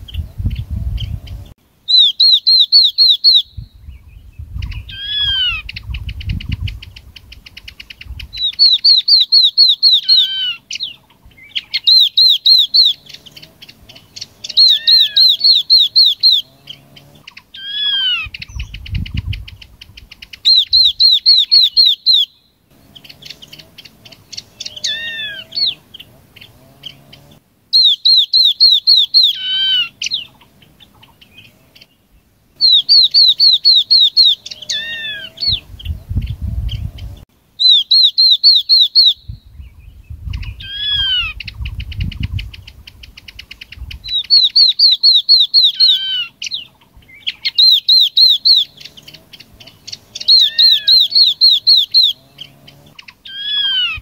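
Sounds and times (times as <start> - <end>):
bird song rapid high notes: 0.0 - 54.0.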